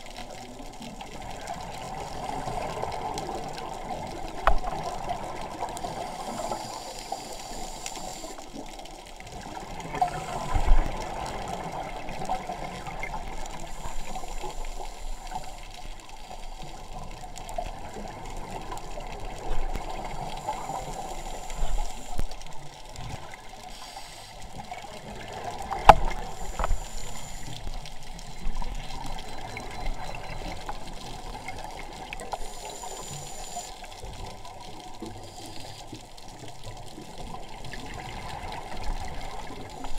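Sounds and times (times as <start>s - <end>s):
muffled underwater wash: 0.0s - 39.9s.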